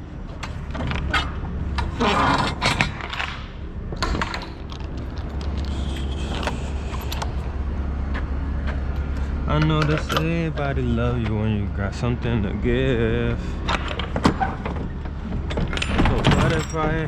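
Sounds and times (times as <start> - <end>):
handling clicks and knocks: 0.2 - 11.5, 13.6 - 17.0
low engine hum: 3.0 - 17.0.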